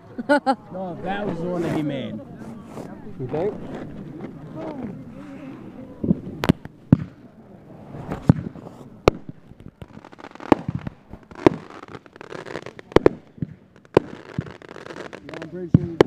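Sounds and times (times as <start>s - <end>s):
fireworks bangs: 1.1s - 16.0s
fireworks crackling: 1.1s - 16.0s.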